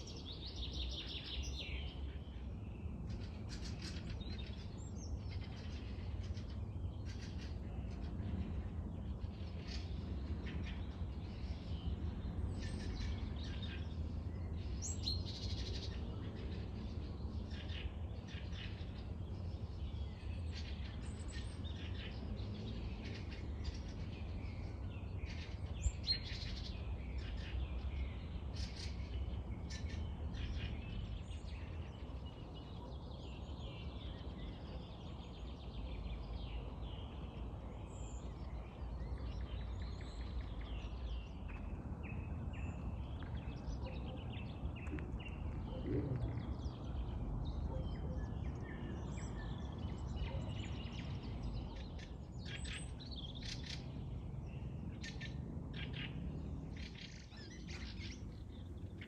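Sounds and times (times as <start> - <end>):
low rumble of wind: 0.0 - 59.0
wild birds chirping and singing: 0.0 - 59.0.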